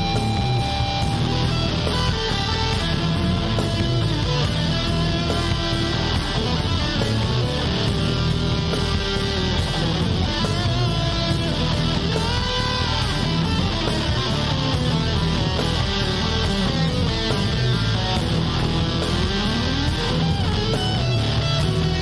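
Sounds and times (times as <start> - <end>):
instrumental rock music: 0.0 - 22.0.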